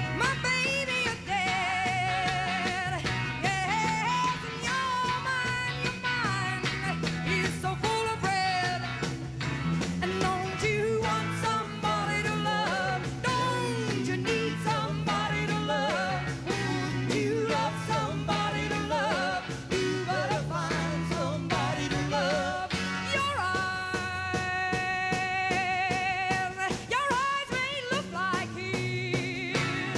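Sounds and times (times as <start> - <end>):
bass line: 0.0 - 27.0, 27.6 - 29.9
drums: 0.0 - 29.9
electric guitar: 0.0 - 29.9.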